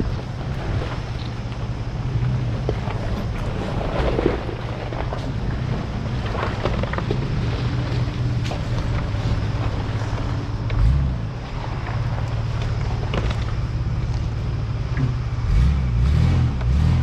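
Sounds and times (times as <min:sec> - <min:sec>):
knocks and rattles: 0:00.0 - 0:15.4
vehicle engine and road rumble: 0:00.0 - 0:17.0.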